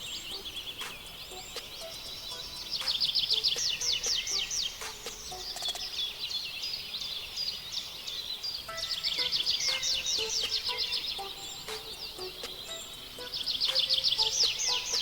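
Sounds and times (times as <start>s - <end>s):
birds singing in trills: 0.0s - 15.0s.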